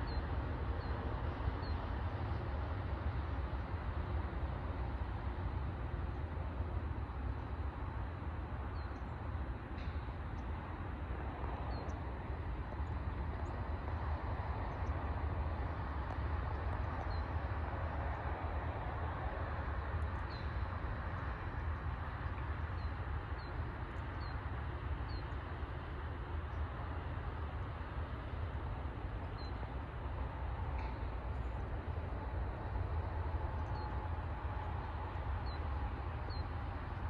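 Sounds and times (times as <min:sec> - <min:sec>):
low outdoor rumble and hiss: 0:00.0 - 0:37.0.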